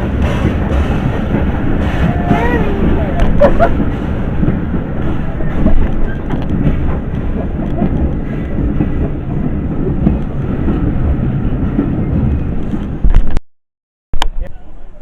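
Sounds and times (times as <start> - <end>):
train rumbling on track: 0.0 - 13.3.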